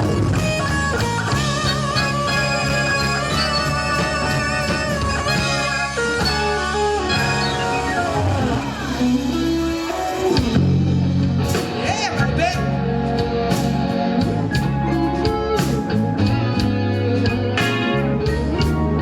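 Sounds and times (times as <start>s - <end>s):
bass guitar: 0.0s - 19.0s
drums: 0.0s - 19.0s
electric guitar sliding bends: 0.0s - 19.0s.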